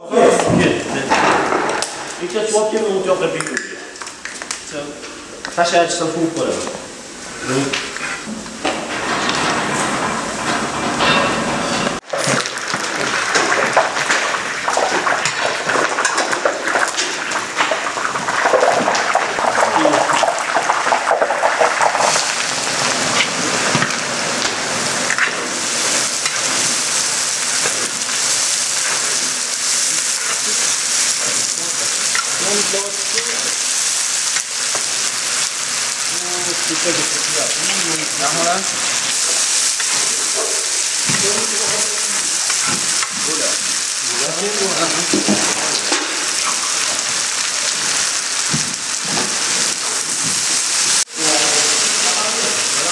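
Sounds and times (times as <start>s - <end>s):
food sizzling in hot oil: 0.3s - 52.9s.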